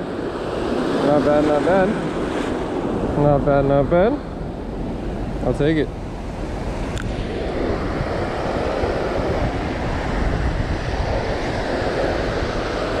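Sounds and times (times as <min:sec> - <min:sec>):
surf washing over sand: 0:00.0 - 0:13.0
wind buffeting microphone: 0:00.0 - 0:13.0.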